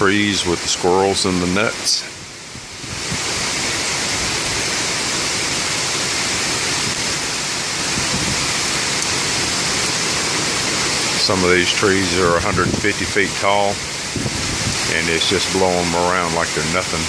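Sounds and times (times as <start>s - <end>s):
wind rushing through trees: 0.0s - 17.0s.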